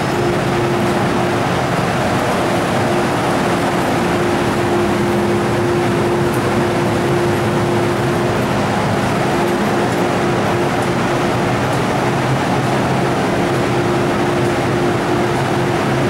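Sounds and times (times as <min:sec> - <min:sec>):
train hum and rushing: 0:00.0 - 0:16.0.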